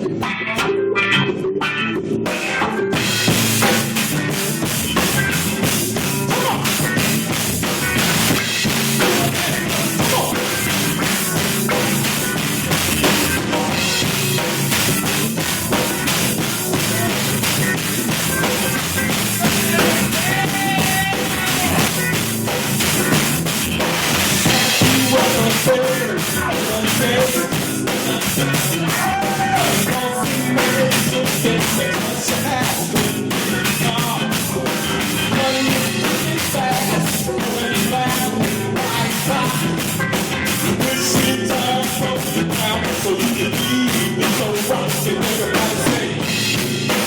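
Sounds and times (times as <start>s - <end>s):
live band playing: 0.0s - 47.0s
drum kit playing: 2.2s - 47.0s.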